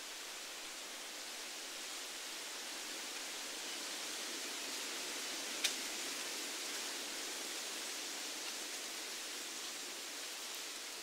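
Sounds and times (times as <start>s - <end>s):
wind rustling through leaves: 0.0s - 11.0s.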